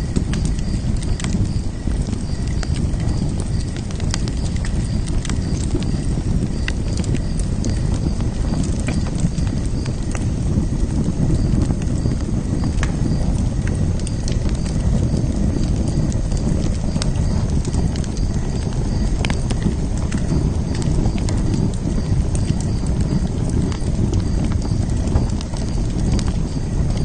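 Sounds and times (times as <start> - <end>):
fire crackling and popping: 0.0 - 27.0
fire flames rumbling: 0.0 - 27.0.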